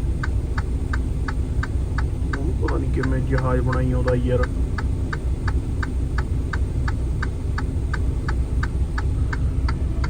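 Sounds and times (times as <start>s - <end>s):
truck engine idling: 0.0s - 10.0s
turn signal ticking: 0.0s - 10.0s.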